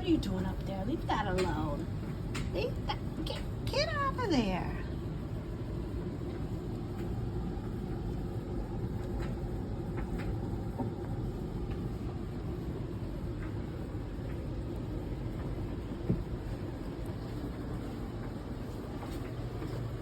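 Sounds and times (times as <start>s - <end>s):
low rumbling hum: 0.0s - 20.0s.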